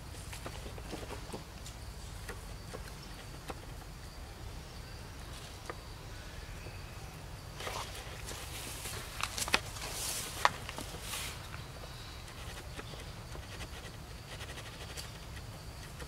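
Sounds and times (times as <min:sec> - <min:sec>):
rustling through vegetation: 0:00.0 - 0:13.9.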